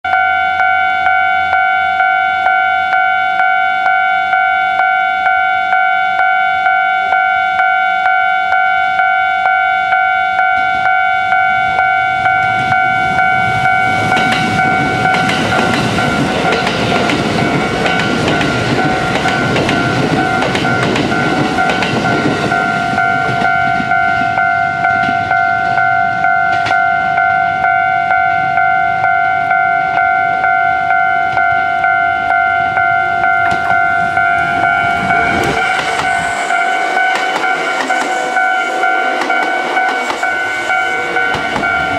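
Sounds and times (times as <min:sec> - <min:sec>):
level crossing alarm ringing: 0:00.0 - 0:41.9
train wheels on rails: 0:00.1 - 0:41.9.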